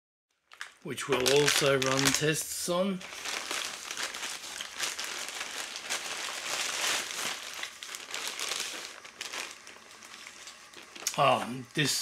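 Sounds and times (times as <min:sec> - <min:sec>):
plastic bag crinkling: 0:00.4 - 0:11.4.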